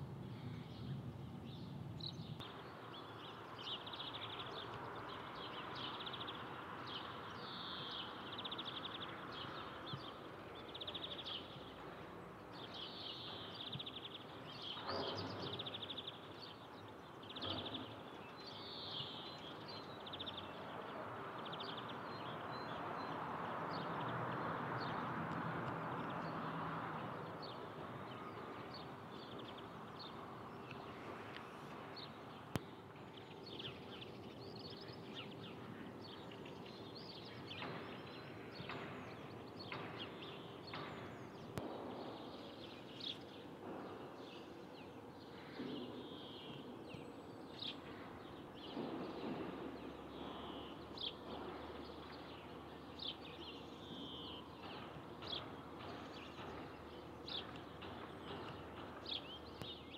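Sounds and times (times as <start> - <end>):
small birds chirping: 0.3 - 59.9.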